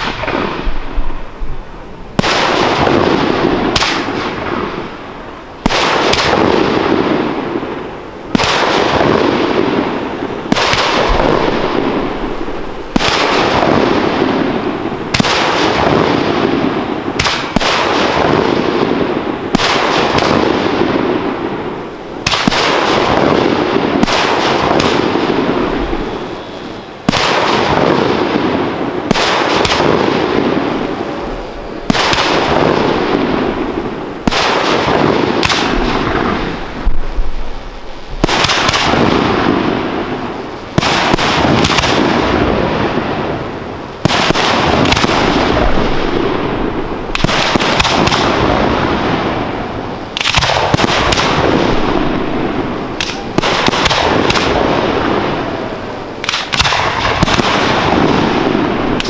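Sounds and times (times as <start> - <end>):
firework shells bursting: 0.0 - 59.0.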